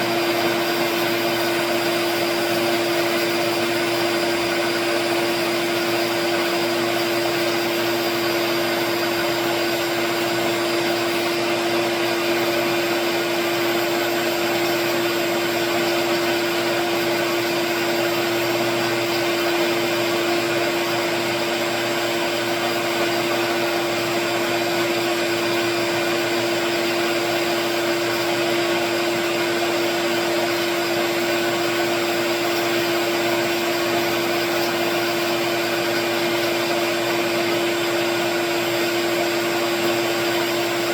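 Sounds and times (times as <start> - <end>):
wood lathe motor whine: 0.0 - 40.9.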